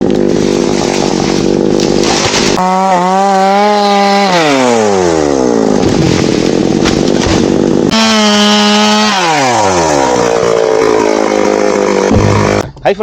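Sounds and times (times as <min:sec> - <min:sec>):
chainsaw engine revving: 0:00.0 - 0:12.6.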